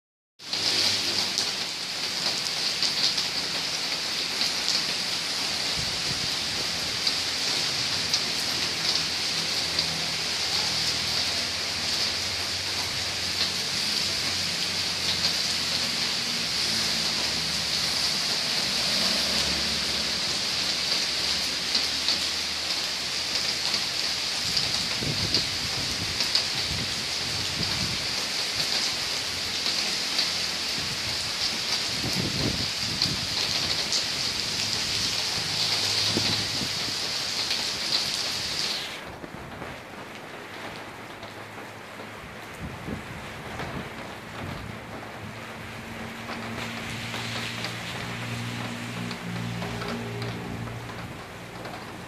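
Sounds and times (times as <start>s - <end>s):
louder raindrop hits: 0.4s - 52.0s
rain on wet pavement: 0.4s - 52.0s.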